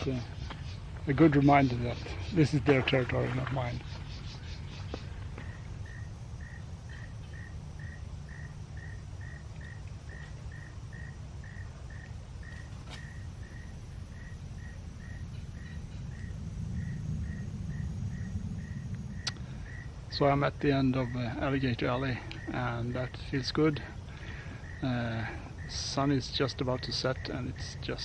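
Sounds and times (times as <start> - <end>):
cricket chirping: 0.0 - 28.0
low background rumble: 0.0 - 28.0.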